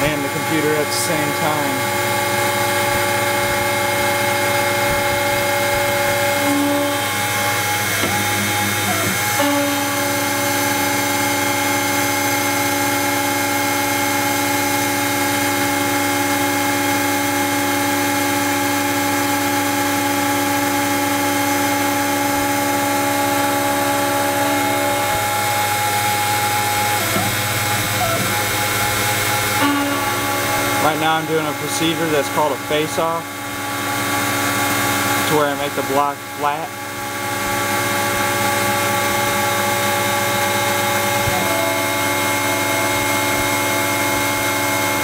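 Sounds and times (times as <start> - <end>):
milling machine cutting wax: 0.0 - 45.0
motors whining: 0.0 - 45.0.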